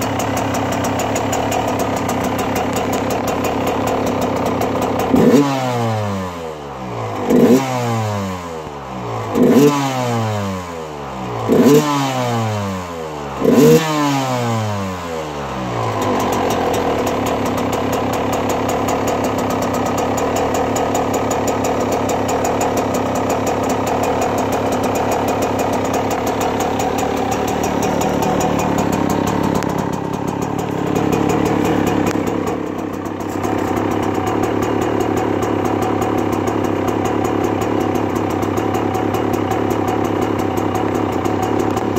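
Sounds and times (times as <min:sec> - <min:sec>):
engine idling: 0:00.0 - 0:41.9
two-stroke engine revving: 0:00.0 - 0:41.9.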